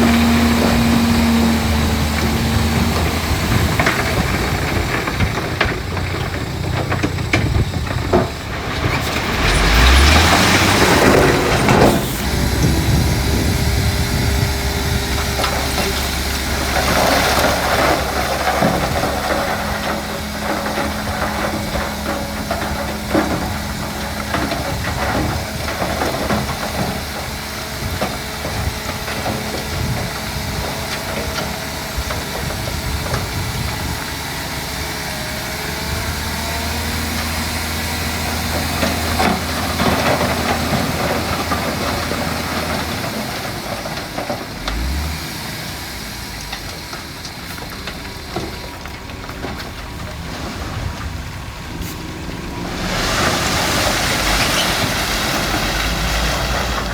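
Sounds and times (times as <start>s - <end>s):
heavy diesel engines running: 0.0s - 56.9s.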